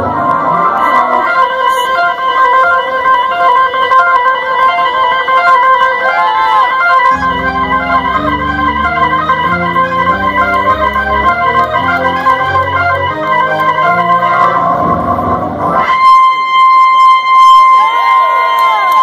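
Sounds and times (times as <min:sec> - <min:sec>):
organ playing rock chords: 0:00.0 - 0:17.8
guitar bend: 0:00.0 - 0:18.0.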